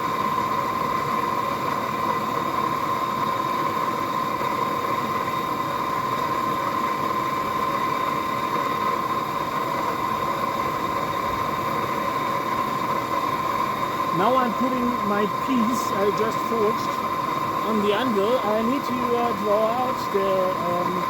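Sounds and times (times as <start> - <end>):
forge rushing with high whine: 0.0 - 21.0.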